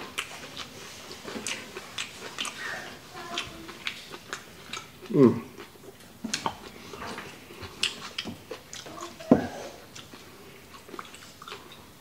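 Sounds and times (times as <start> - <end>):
chewing and lip smacks: 0.0 - 11.9.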